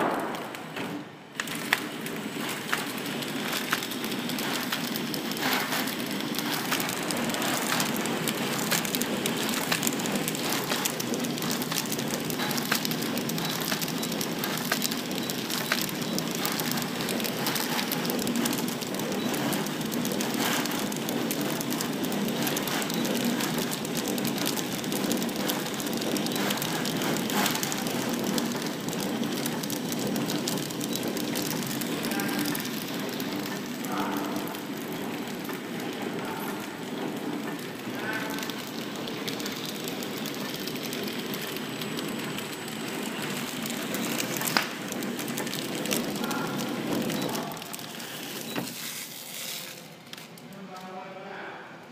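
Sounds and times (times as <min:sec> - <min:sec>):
packing machine clattering: 0:00.0 - 0:50.4
sharp machine clicks: 0:01.3 - 0:48.8.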